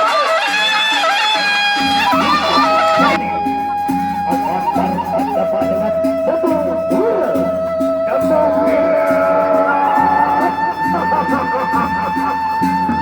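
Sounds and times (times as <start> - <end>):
sustained high instrument notes: 0.0 - 13.0.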